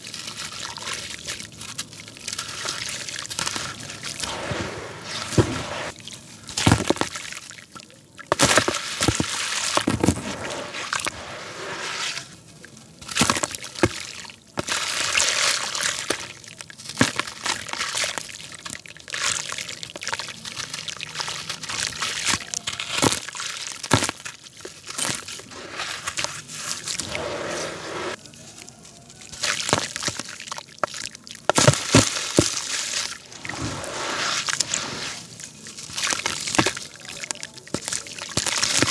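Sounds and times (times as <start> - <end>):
watery paste sloshing: 0.0 - 6.0, 8.7 - 12.3, 13.1 - 38.9
wet concrete crunching: 0.0 - 38.9.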